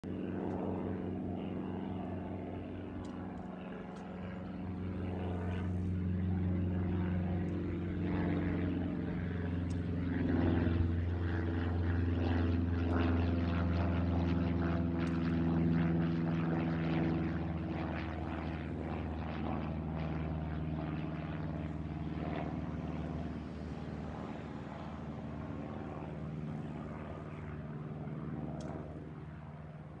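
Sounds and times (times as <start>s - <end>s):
light plane droning overhead: 0.0s - 30.0s.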